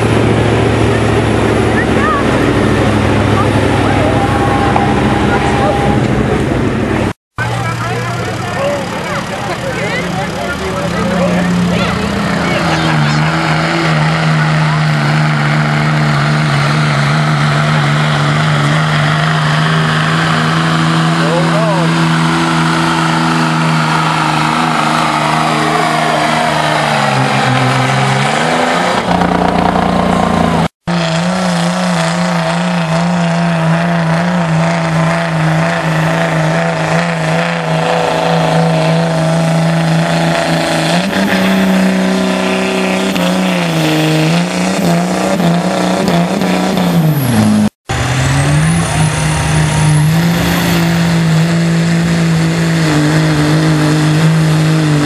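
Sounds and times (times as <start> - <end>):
diesel truck engines revving: 0.0 - 55.0.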